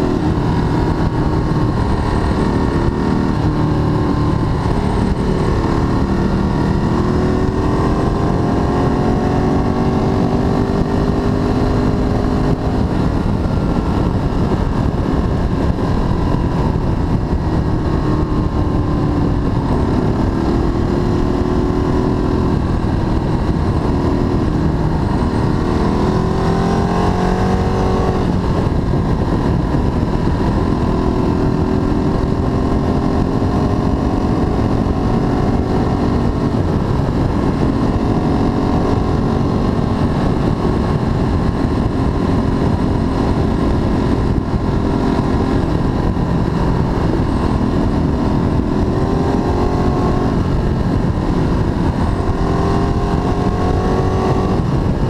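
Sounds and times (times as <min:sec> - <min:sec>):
motorcycle engine running at speed: 0:00.0 - 0:55.0
road noise: 0:00.0 - 0:55.0
wind rushing: 0:00.0 - 0:55.0.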